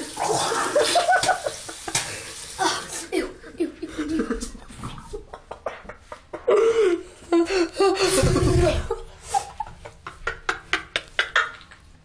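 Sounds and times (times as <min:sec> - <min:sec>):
person laughing: 0:00.5 - 0:02.0, 0:02.6 - 0:11.9.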